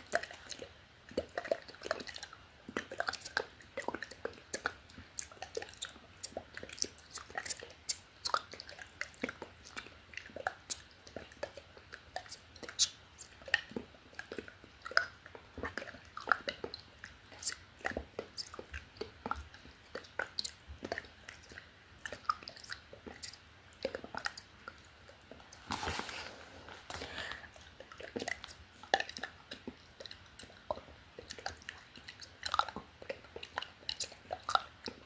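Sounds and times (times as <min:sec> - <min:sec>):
wet mouth clicks and lip smacks: 0:00.1 - 0:25.6, 0:27.6 - 0:35.0.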